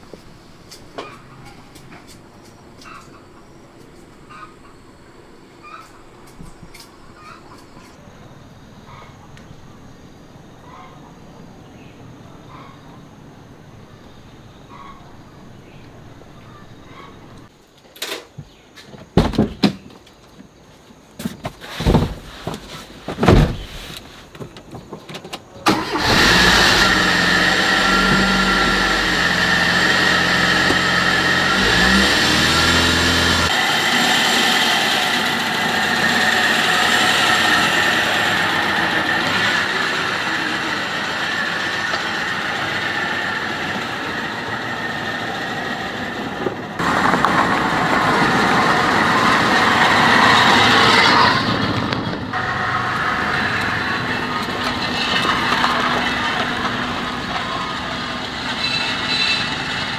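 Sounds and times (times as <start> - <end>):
car engine starting and running: 0.0 - 17.5, 25.6 - 59.9.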